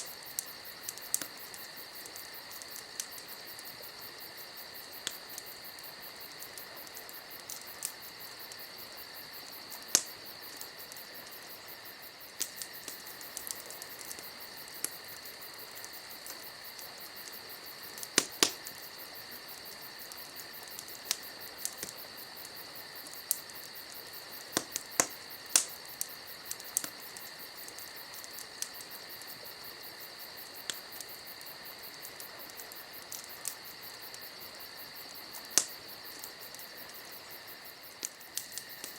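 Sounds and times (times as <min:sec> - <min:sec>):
campfire crackling and popping: 0:00.0 - 0:38.9
crickets chirring: 0:00.0 - 0:38.9.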